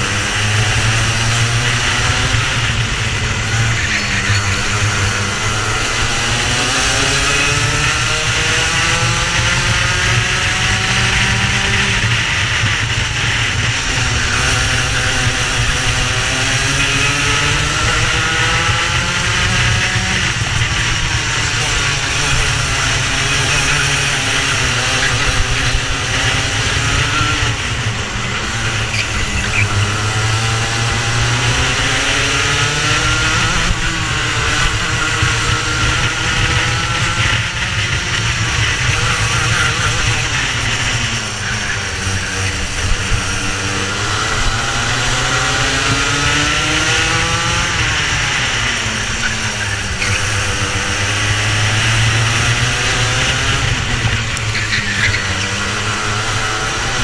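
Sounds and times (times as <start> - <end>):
racing kart engine: 0.0 - 57.0.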